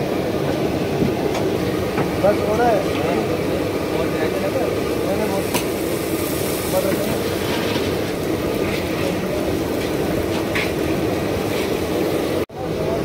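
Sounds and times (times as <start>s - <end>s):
batter sizzling in hot oil: 1.6s - 12.4s.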